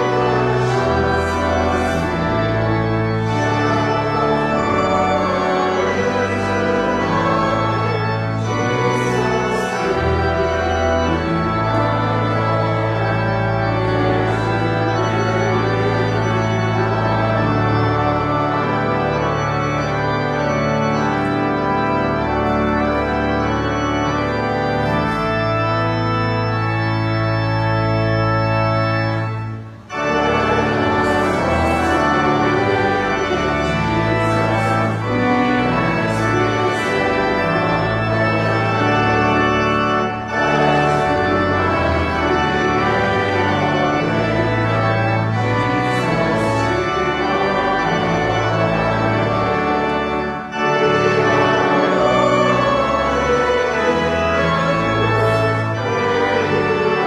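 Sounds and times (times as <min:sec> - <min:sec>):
church organ playing chords: 0:00.0 - 0:57.0.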